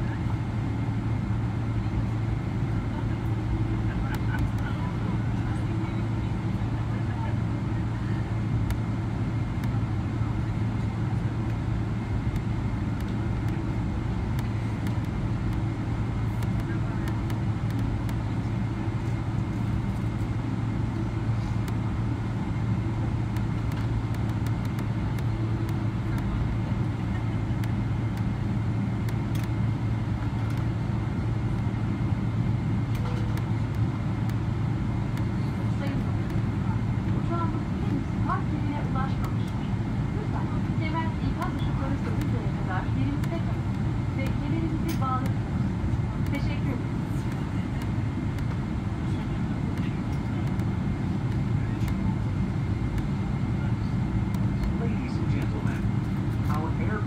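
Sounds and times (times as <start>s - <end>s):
aircraft cabin rumble: 0.0s - 57.0s.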